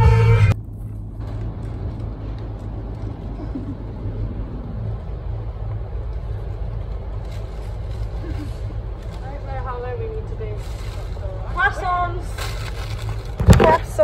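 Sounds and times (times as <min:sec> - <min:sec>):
supermarket background rumble: 0:00.0 - 0:14.0.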